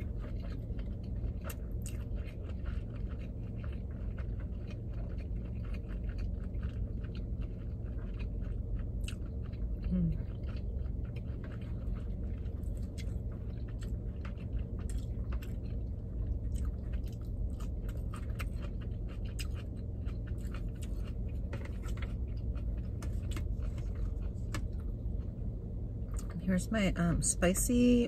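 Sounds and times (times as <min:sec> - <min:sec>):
wet chewing: 0:00.0 - 0:26.4
low hum: 0:00.0 - 0:28.0.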